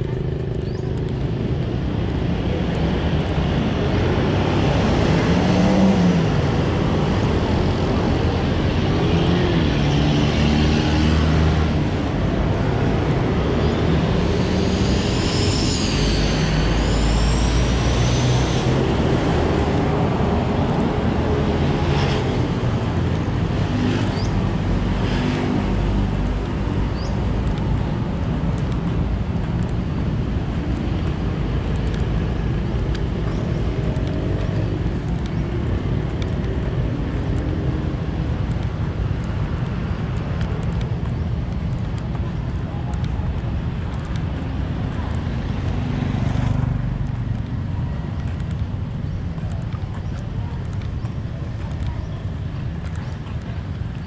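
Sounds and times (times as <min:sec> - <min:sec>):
road noise: 0:00.0 - 0:54.0
vehicle engines passing: 0:00.0 - 0:54.0.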